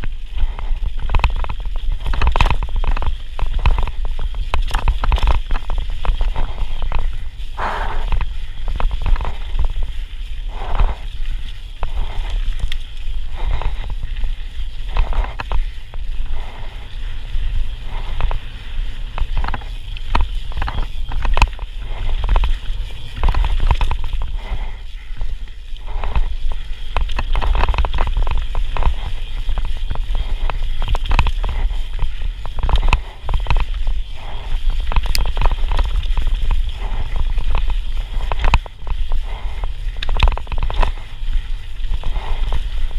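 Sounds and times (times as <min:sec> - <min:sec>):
tyres rolling over dirt: 0:00.0 - 0:42.9
wind rumbling on microphone: 0:00.0 - 0:42.9.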